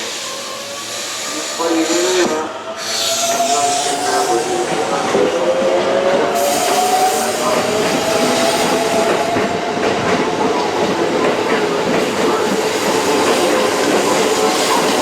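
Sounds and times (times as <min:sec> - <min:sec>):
electric train whine: 0:00.0 - 0:15.0
train wheels clattering over rails: 0:02.8 - 0:15.0.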